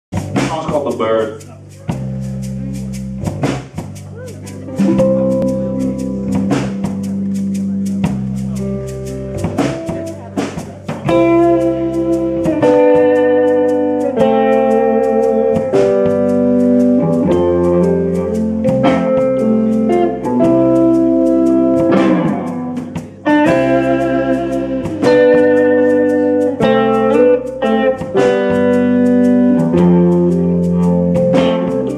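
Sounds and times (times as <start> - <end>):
live rock band playing: 0.2 - 31.9.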